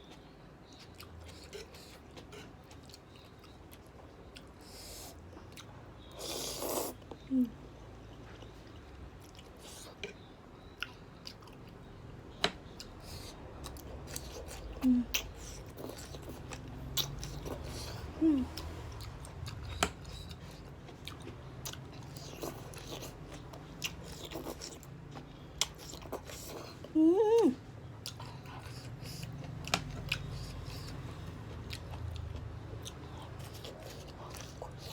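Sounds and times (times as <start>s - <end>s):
person chewing noodles: 0.0s - 34.9s.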